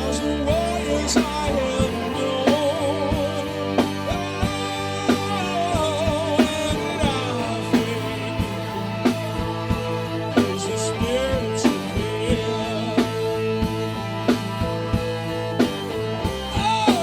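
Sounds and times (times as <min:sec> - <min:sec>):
person singing: 0:00.0 - 0:14.6, 0:16.4 - 0:17.0
drums beating: 0:00.0 - 0:17.0
rock band playing: 0:00.0 - 0:17.0.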